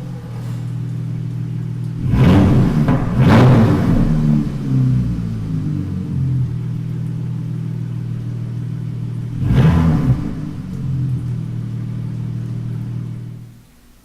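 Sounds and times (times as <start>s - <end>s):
engine revving: 0.0s - 13.4s
car engine idling: 0.0s - 14.0s.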